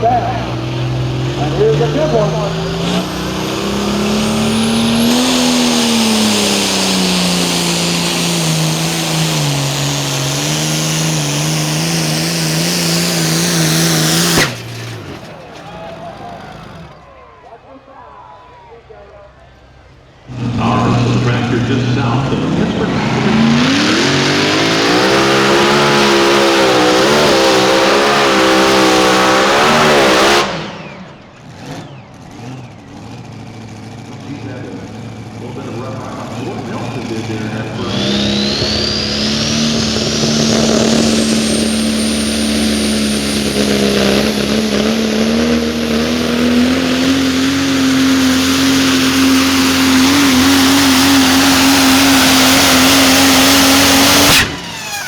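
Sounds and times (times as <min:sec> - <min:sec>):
engine running at full throttle: 0:00.0 - 0:17.1, 0:20.2 - 0:55.0.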